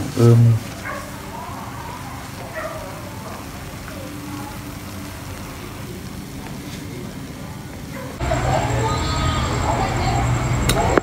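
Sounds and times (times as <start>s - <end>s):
distant voices: 0.0s - 11.0s.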